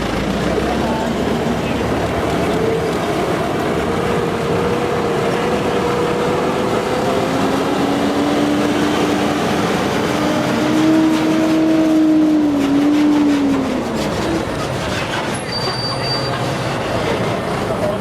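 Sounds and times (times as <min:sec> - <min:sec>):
emergency vehicle sirens wailing: 0:00.0 - 0:18.0
vehicle noise: 0:00.0 - 0:18.0.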